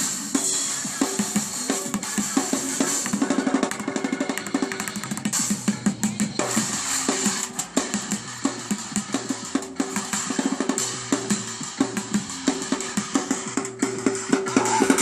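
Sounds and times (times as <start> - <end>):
bucket drumming: 0.6 - 15.0.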